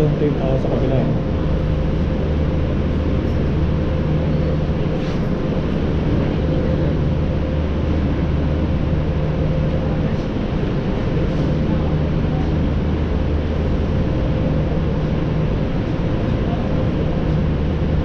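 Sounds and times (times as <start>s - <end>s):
low machinery hum: 0.0s - 18.0s
thin constant whine: 0.0s - 18.0s.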